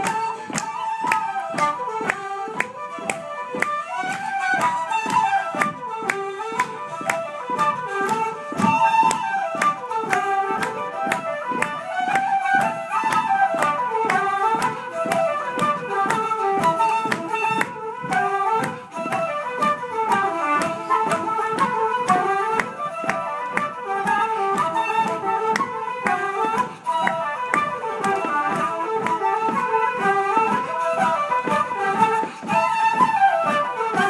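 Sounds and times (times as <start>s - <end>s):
steady tapping beat: 0.0s - 34.0s
wooden flutes playing: 0.0s - 34.0s.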